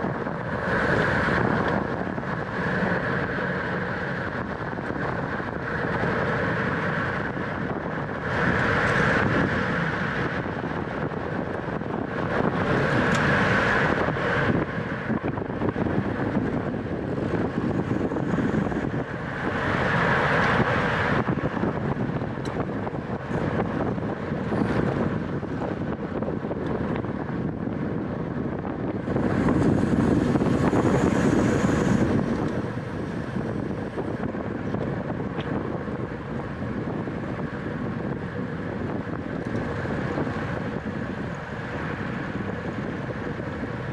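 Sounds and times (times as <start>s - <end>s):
steady rumble: 0.0s - 43.9s
wind rushing over microphone: 0.0s - 43.9s.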